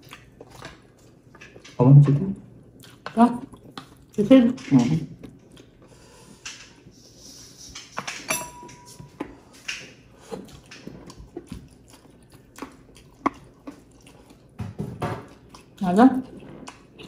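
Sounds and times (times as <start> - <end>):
people chewing: 0.0 - 8.3, 9.0 - 17.0.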